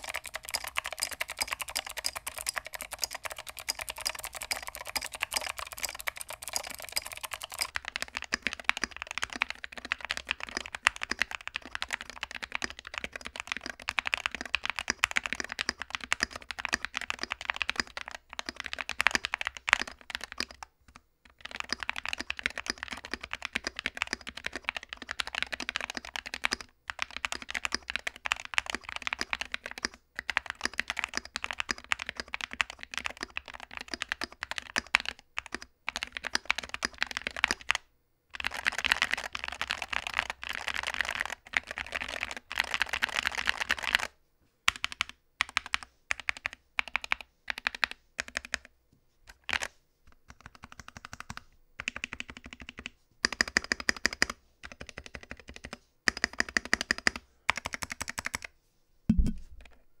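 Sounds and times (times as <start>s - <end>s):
mechanical keyboard typing: 0.0s - 44.1s, 44.7s - 48.7s, 49.3s - 58.5s.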